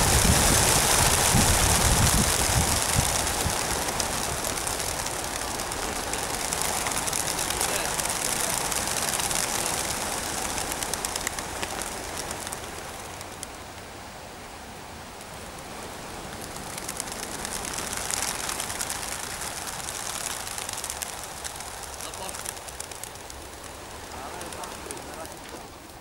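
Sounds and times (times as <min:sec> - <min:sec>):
pigeon wings flapping: 0:00.0 - 0:13.9, 0:15.2 - 0:26.0.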